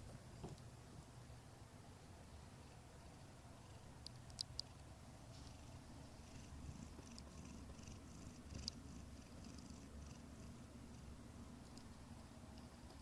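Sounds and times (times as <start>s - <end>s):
cat purring: 2.6s - 13.0s.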